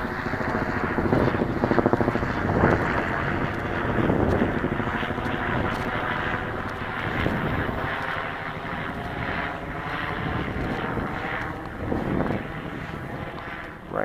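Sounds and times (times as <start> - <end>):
model plane propeller whirring: 0.0 - 14.0.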